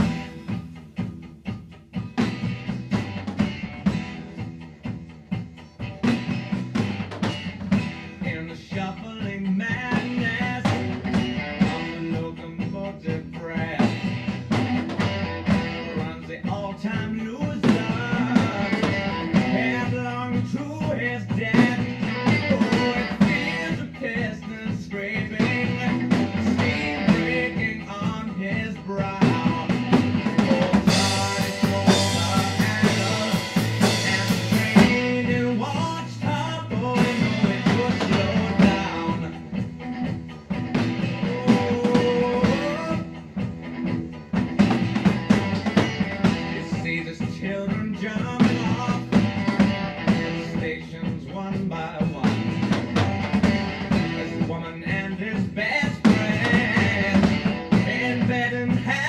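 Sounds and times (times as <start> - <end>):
acoustic drum kit playing: 0.0 - 59.0
rock music recording: 0.0 - 59.0.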